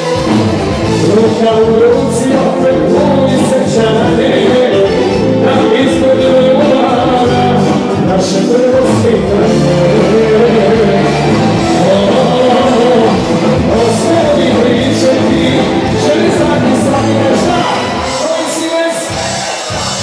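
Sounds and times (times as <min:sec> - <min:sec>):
keyboard: 0:00.0 - 0:20.0
live pop-folk band playing: 0:00.0 - 0:20.0
man singing into microphone: 0:00.8 - 0:20.0.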